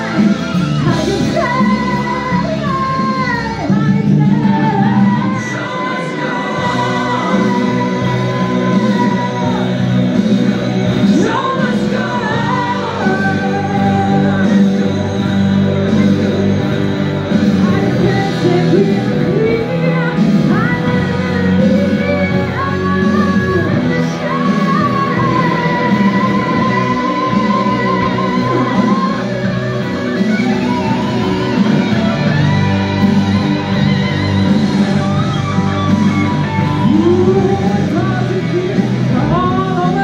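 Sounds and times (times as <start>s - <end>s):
rock music with electric guitar: 0.0s - 40.0s
woman singing: 0.0s - 40.0s.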